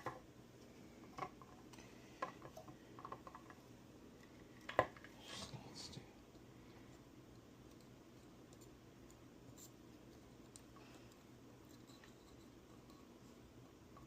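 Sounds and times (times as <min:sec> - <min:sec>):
soft hiss: 0:00.1 - 0:14.0.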